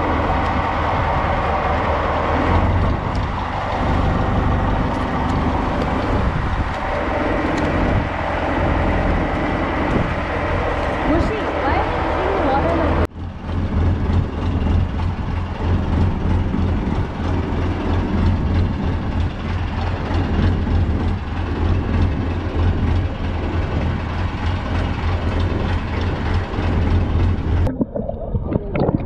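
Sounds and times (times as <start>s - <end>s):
boat engine running: 0.0s - 29.0s
water noise: 0.0s - 29.0s
wind: 0.0s - 29.0s.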